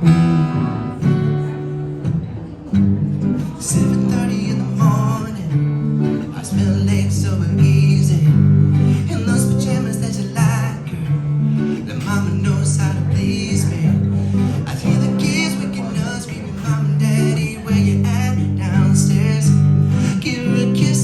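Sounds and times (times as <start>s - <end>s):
strummed acoustic guitar: 0.0s - 21.0s
man singing a ballad: 3.4s - 21.0s.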